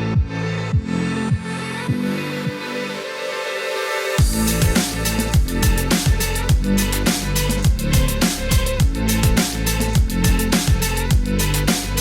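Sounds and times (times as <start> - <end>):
electronic music with heavy bass: 0.0 - 2.9, 4.2 - 12.0.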